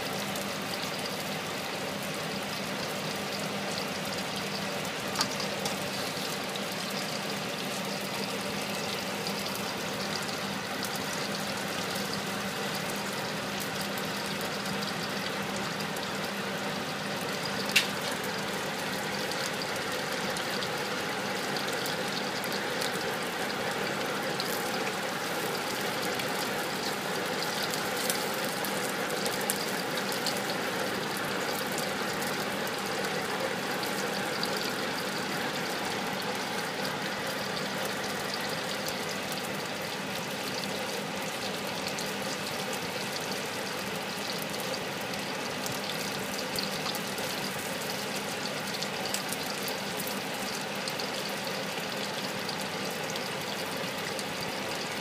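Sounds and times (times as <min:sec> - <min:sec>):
prawns sizzling in hot oil: 0:00.0 - 0:55.0.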